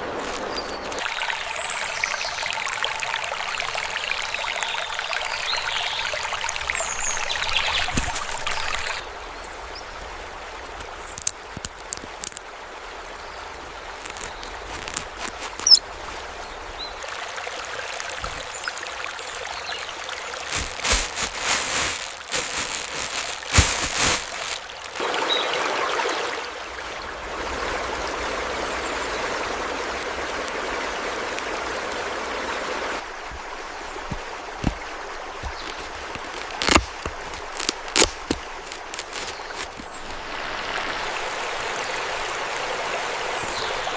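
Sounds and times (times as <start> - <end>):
stream trickling over stones: 0.0 - 43.9.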